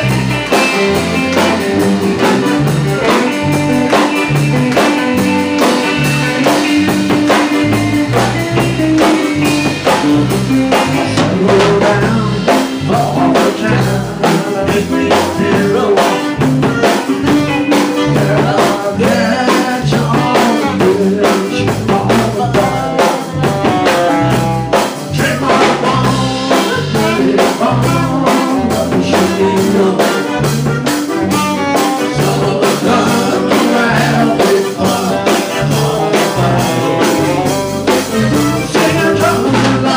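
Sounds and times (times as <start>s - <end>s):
bass line: 0.0s - 39.9s
drum kit beat: 0.0s - 39.9s
live band playing: 0.0s - 39.9s.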